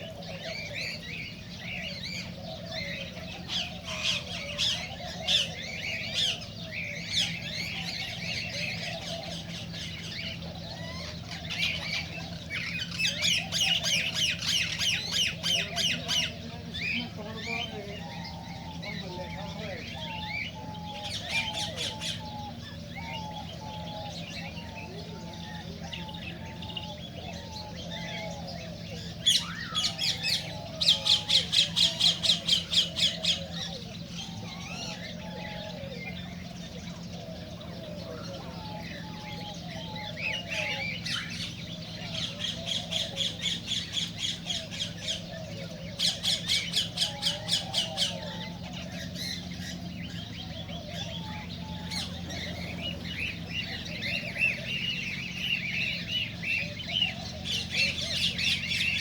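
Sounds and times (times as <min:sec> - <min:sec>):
birds chattering: 0:00.0 - 0:59.0
cockatiels squawking: 0:00.0 - 0:59.0
steady low hum: 0:00.0 - 0:59.0.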